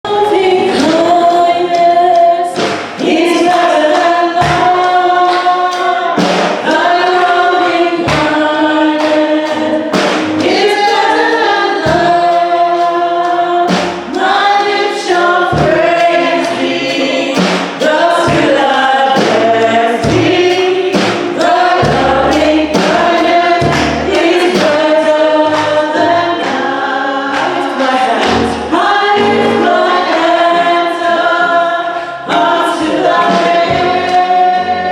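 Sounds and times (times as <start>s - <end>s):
gospel choir singing: 0.0s - 34.9s.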